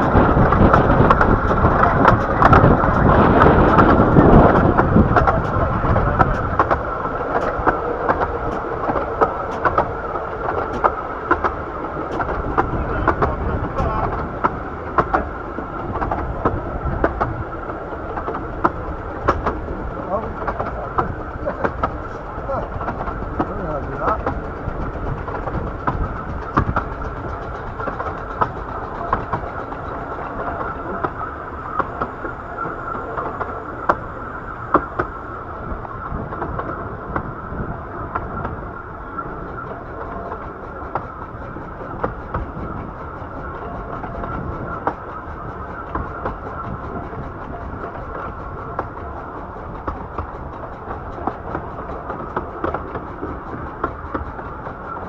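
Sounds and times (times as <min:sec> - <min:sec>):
miniature train rumbling: 0:00.0 - 0:55.0
wheels clicking over rails: 0:00.0 - 0:55.0.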